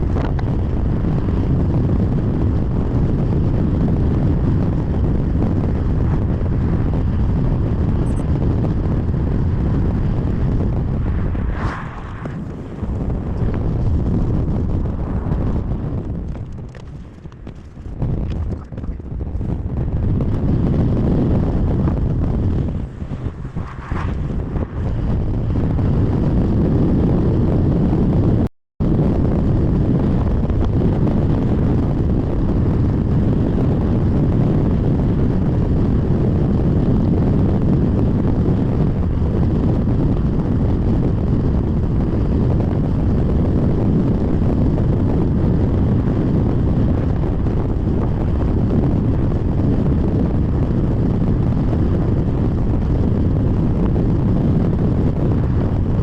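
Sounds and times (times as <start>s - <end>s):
storm wind buffeting microphone: 0.0s - 56.0s.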